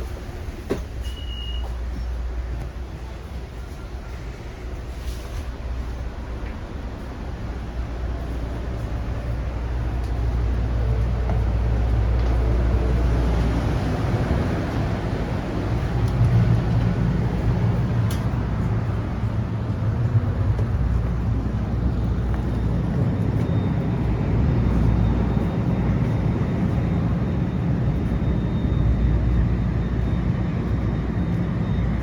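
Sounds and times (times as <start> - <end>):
idling train engine rumble: 0.0 - 32.0.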